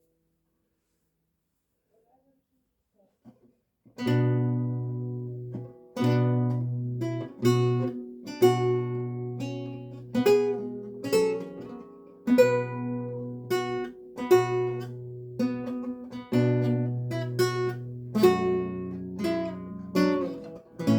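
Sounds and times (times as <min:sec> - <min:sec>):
lute plucked notes: 0:04.0 - 0:20.9.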